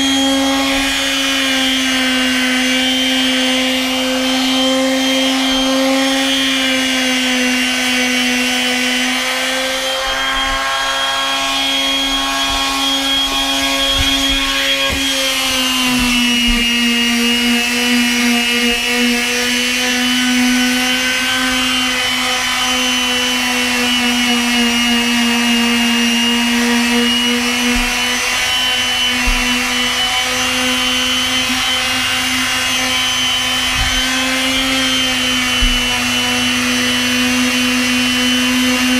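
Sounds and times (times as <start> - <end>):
orbital sander whining: 0.0 - 38.9.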